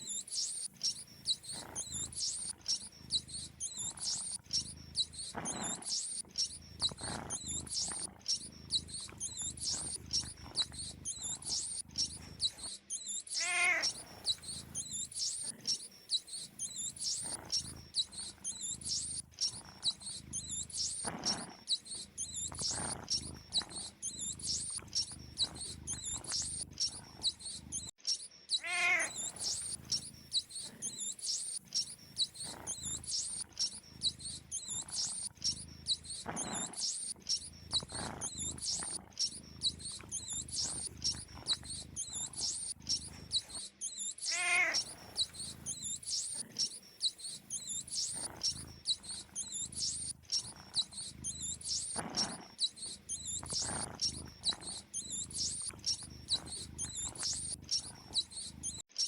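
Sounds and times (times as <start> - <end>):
mice squeaking: 0.0 - 59.0.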